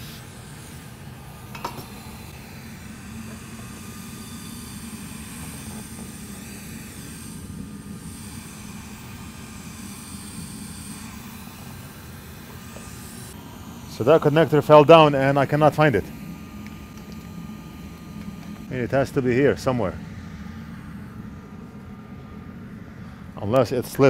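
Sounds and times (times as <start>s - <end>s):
hot air blower hissing: 0.0s - 24.0s.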